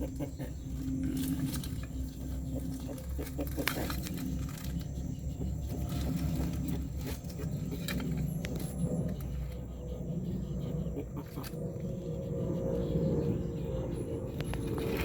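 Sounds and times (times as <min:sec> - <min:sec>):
tortoise clucking grunts: 0:00.0 - 0:15.0.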